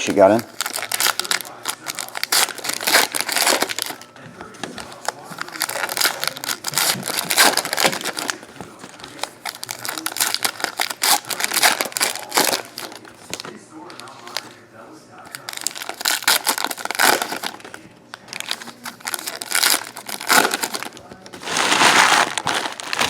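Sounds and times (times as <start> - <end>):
foil wrappers crinkling and tearing: 0.0 - 14.6, 15.2 - 23.0.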